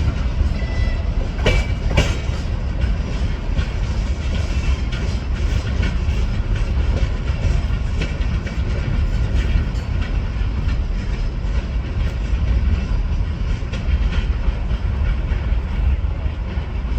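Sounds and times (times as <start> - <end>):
freight train rumbling: 0.0 - 16.9
wheels clattering over rail joints: 0.0 - 16.9.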